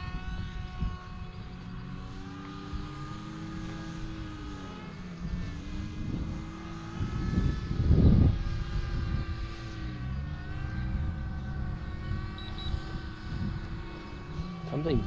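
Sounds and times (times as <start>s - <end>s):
model airplane motor drone: 0.0s - 15.0s.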